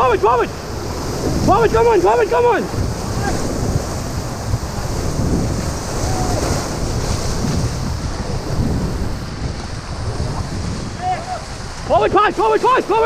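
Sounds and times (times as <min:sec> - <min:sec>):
river rapids rushing and splashing: 0:00.0 - 0:13.0
wind buffeting microphone: 0:00.0 - 0:13.0.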